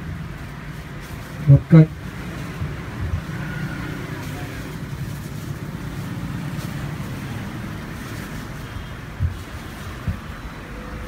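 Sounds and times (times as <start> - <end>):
cooling fans whirring: 0.0 - 11.0.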